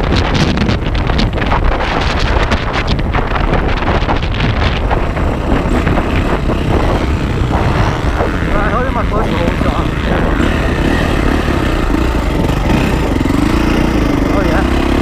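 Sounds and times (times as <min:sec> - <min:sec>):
dirt bike engine running: 0:00.0 - 0:15.0
wind buffeting microphone: 0:00.0 - 0:15.0.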